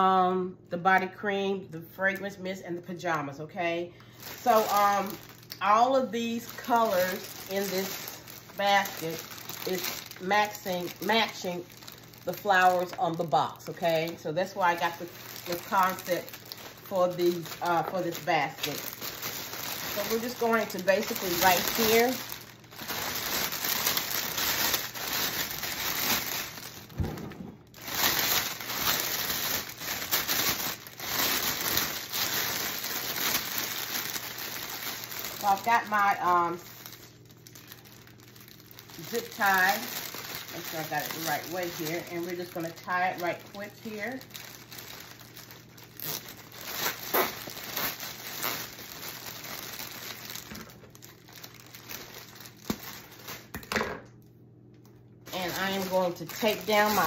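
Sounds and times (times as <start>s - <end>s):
cellophane bag crinkling: 4.0s - 53.6s, 55.3s - 57.0s.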